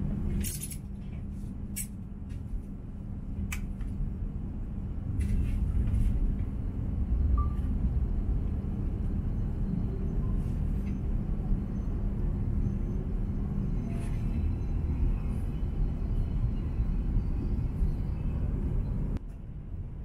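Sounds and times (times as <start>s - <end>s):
train interior rumble and hum: 0.0s - 20.0s.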